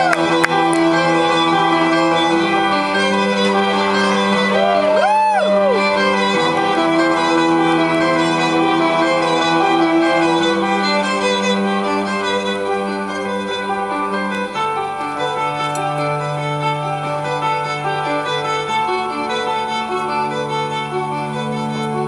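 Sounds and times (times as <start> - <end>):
slow instrumental music: 0.0 - 22.0.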